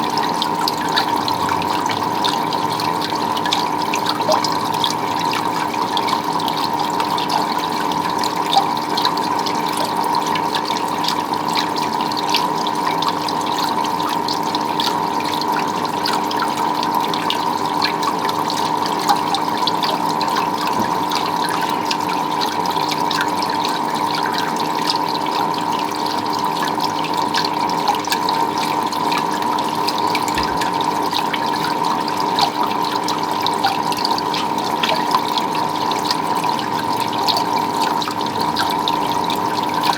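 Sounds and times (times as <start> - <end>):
running splashing water: 0.0 - 39.9
water drips and spatters: 0.0 - 39.9.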